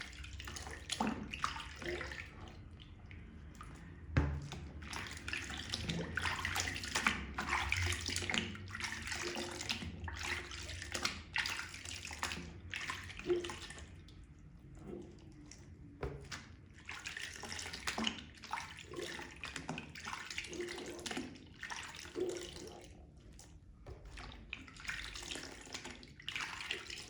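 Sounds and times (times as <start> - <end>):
wet sponge squelching and splashing: 0.0 - 27.0.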